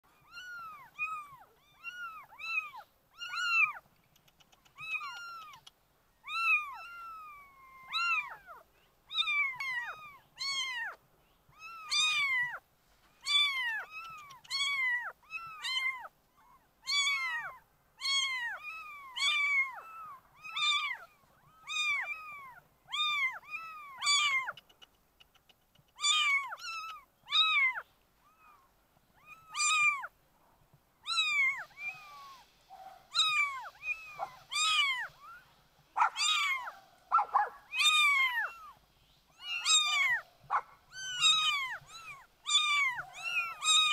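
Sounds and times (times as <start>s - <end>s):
kittens meowing: 0.1s - 12.6s, 13.2s - 24.6s, 25.9s - 30.1s, 31.0s - 36.8s, 37.7s - 43.9s.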